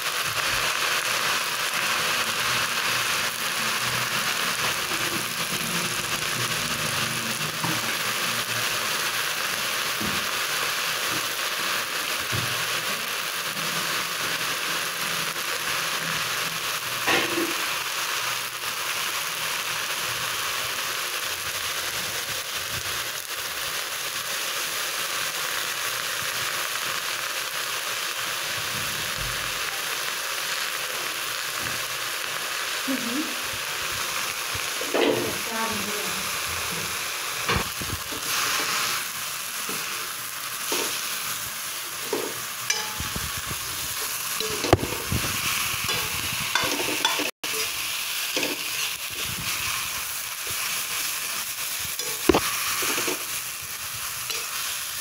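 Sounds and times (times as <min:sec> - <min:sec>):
greens sizzling in a pan: 0:00.0 - 0:55.0.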